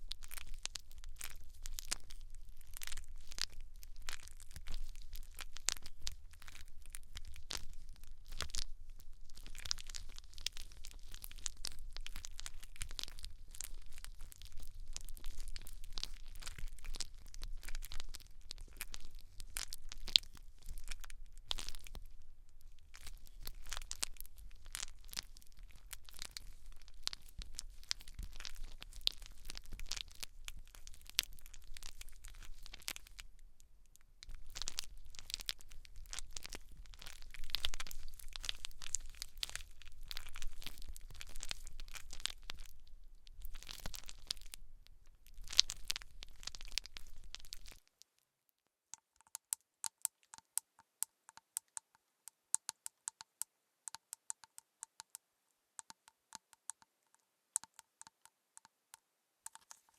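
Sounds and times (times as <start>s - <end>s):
hair crackling and crinkling: 0.0s - 48.2s, 59.4s - 59.9s.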